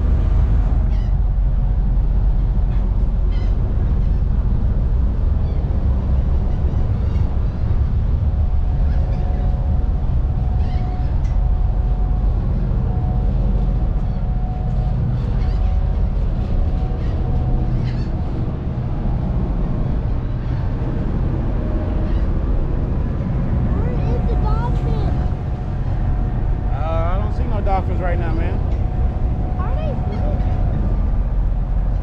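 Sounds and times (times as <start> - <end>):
ferry engines rumbling: 0.0 - 32.0.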